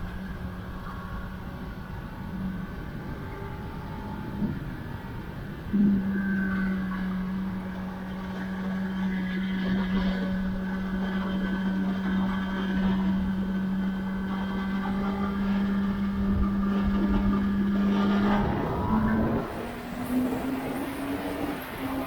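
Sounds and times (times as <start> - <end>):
motorcycle engine at steady pitch: 0.0 - 22.0
wind and road noise: 0.0 - 22.0.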